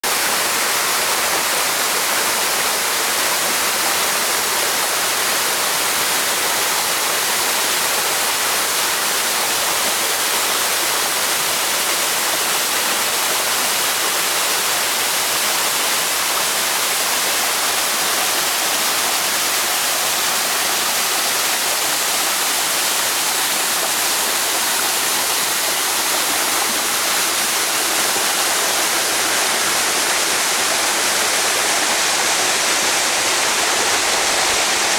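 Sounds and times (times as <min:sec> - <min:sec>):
waterfall pouring into pool: 0:00.1 - 0:34.9.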